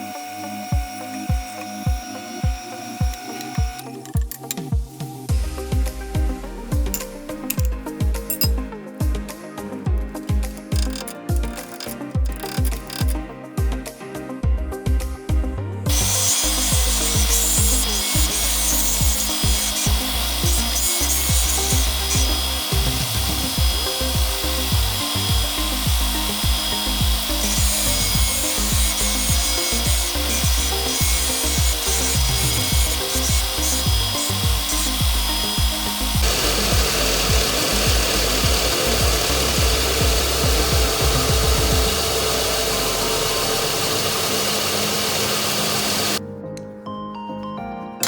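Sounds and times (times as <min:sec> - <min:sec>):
power tool grinding: 0:00.0 - 0:04.6, 0:06.9 - 0:08.6, 0:10.3 - 0:13.3, 0:15.9 - 0:46.2
background music with steady beat: 0:00.0 - 0:48.0.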